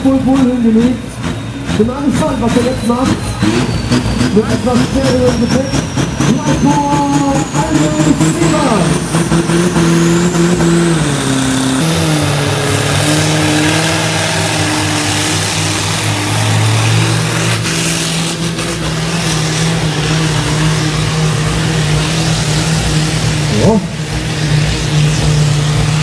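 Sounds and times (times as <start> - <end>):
tractor engine revving hard: 0.0 - 26.0.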